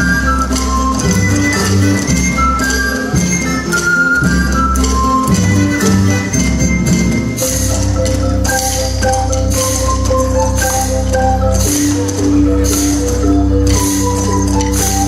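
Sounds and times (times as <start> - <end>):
music with bright melody: 0.0 - 15.0.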